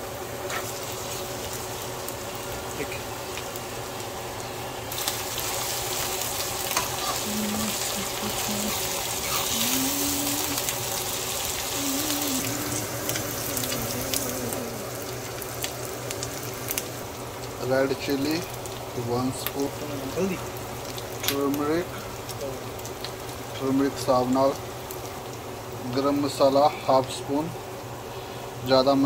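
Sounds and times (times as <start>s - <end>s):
onions sizzling in hot oil: 0.0s - 29.0s.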